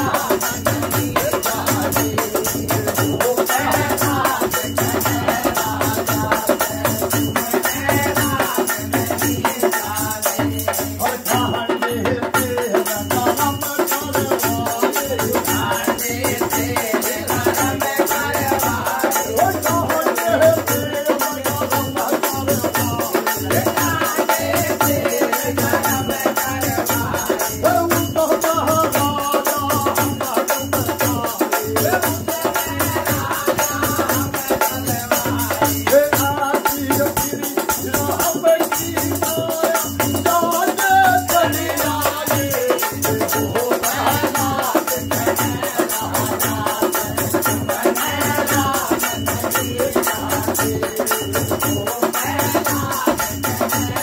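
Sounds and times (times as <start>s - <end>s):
hand drum steady beat: 0.0s - 54.0s
man singing: 0.0s - 54.0s.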